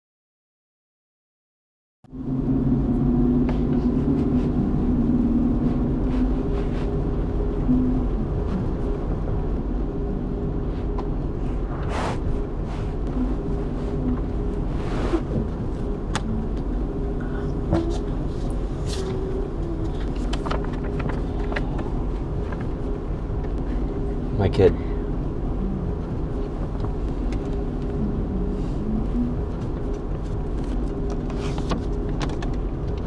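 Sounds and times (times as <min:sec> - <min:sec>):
car cabin rumble: 0:02.1 - 0:33.0.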